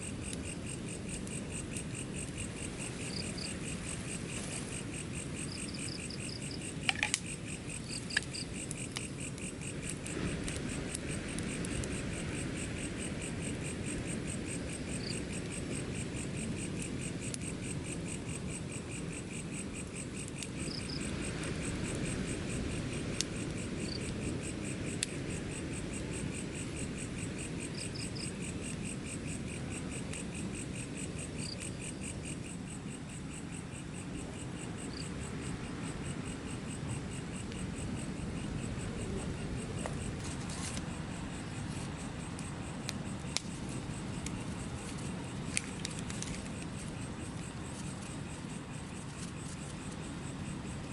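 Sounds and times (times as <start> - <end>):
crickets chirring: 0.0 - 50.9.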